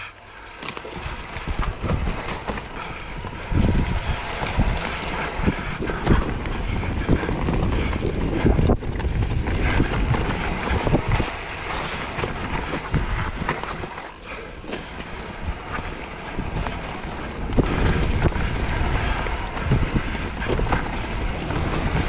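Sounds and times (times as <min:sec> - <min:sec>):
tyres rumbling on dirt: 0:00.0 - 0:22.0
wind buffeting microphone: 0:00.0 - 0:22.0
bike knocks and rattles: 0:00.6 - 0:22.0.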